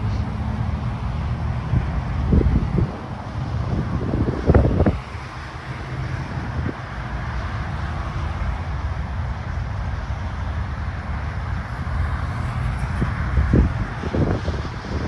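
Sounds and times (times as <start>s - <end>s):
distant road traffic rumble: 0.0s - 15.0s
wind buffeting microphone: 0.0s - 15.0s.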